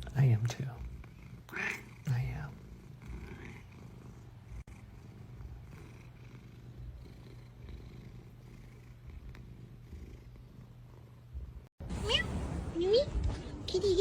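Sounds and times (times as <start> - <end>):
cat purring: 0.0 - 12.7.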